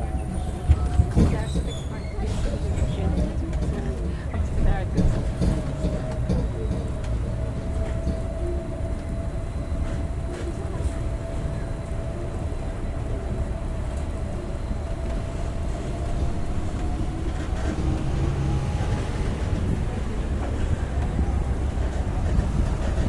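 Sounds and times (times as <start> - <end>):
faint tram whine: 0.0 - 23.0
tram low rumble: 0.0 - 23.0.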